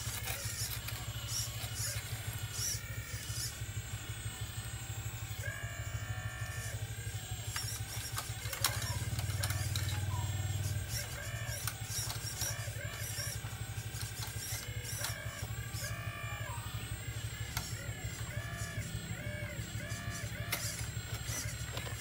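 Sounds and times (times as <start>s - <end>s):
model excavator motor drone: 0.0s - 22.0s
motor whine rising and falling: 0.0s - 22.0s.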